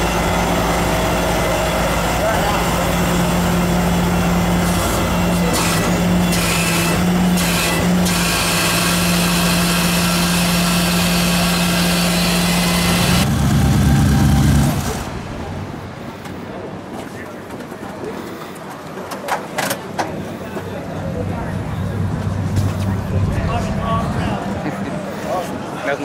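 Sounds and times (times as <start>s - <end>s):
heavy vehicle engine running: 0.0s - 17.0s, 19.8s - 26.0s.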